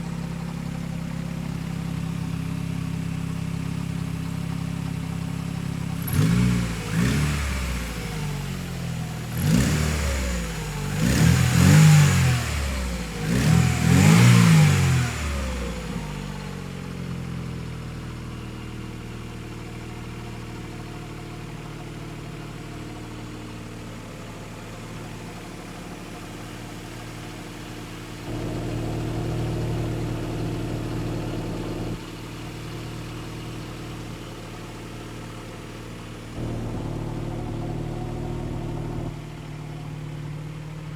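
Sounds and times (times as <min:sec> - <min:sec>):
car engine revving and idling: 0:00.0 - 0:40.9.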